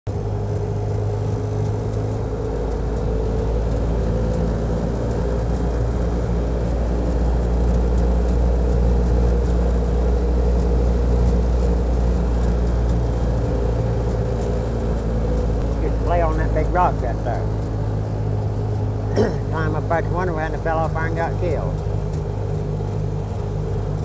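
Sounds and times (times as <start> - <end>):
car engine humming: 0.1 - 24.0
road noise inside car: 0.1 - 24.0.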